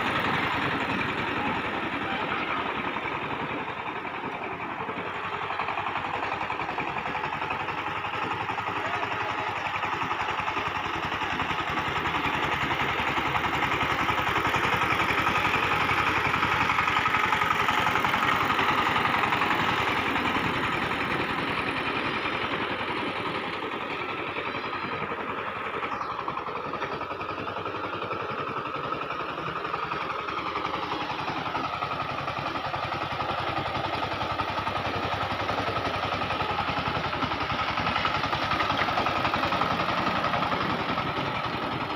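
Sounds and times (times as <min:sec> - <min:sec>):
power tiller engine running: 0:00.0 - 0:41.9.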